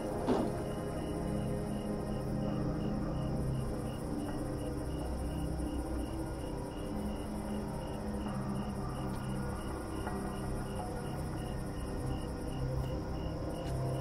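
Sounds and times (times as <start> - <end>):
cricket chirping: 0.0 - 14.0
steady low drone: 0.0 - 14.0.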